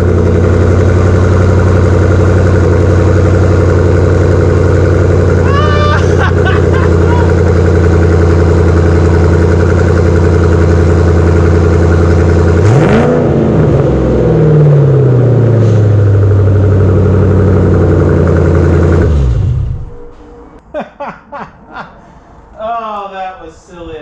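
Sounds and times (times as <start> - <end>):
car engine idling loudly: 0.0 - 19.9
engine revving: 0.0 - 20.6.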